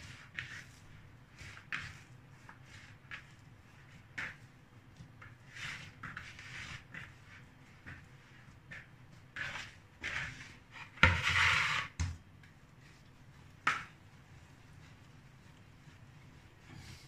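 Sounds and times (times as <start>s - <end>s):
hands squishing dough: 0.0s - 11.2s, 12.1s - 17.0s.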